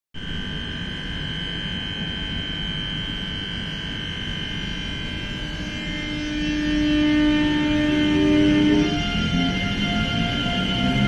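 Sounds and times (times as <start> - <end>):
electric locomotive whine: 0.2 - 11.0.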